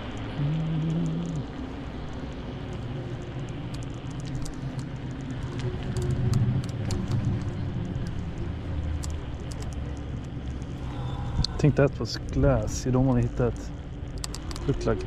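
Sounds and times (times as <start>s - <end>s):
light rattling clicks: 0.0s - 10.7s, 12.1s - 15.0s
scooter wheels rumbling on pavement: 0.0s - 15.0s.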